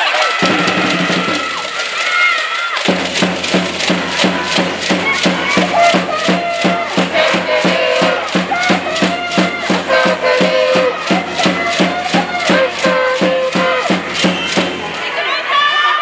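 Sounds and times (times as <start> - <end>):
cheering music with drums: 0.0 - 16.0.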